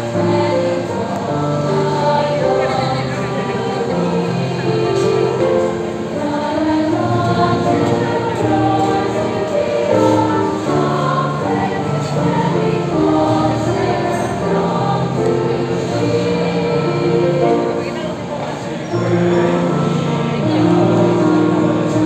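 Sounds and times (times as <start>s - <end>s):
choir singing in harmony: 0.0s - 22.0s.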